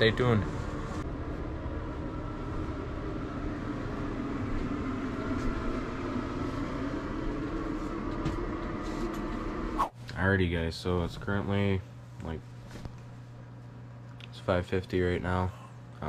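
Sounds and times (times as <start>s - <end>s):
fan motor humming: 0.0s - 16.0s.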